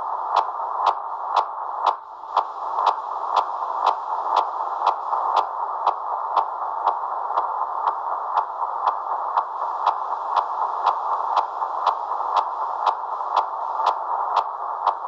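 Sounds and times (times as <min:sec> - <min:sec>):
radio hiss: 0:00.0 - 0:15.0
sharp radar ticks: 0:00.0 - 0:15.0.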